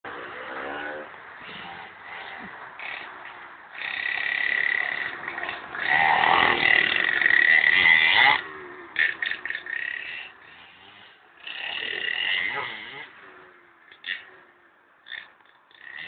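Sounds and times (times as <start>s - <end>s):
mini dirt bike engine buzzing: 0.1s - 16.0s.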